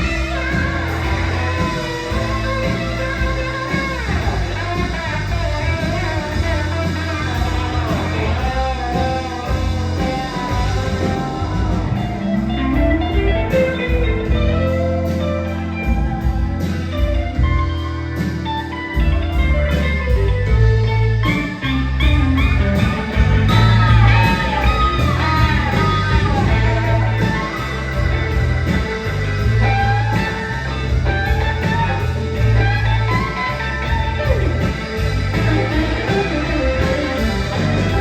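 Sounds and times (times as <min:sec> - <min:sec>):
blues-rock band playing: 0:00.0 - 0:38.0
sliding guitar lead: 0:00.0 - 0:38.0.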